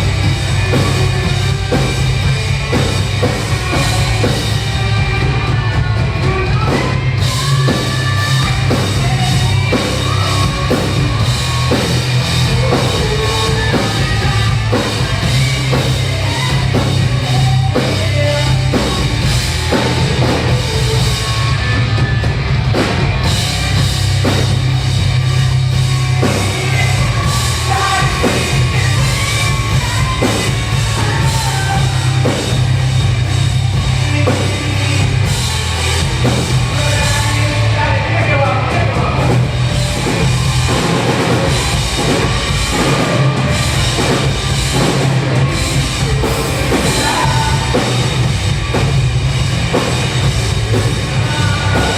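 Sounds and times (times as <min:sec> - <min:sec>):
drum kit beat: 0:00.0 - 0:51.9
rock band playing live: 0:00.0 - 0:51.9.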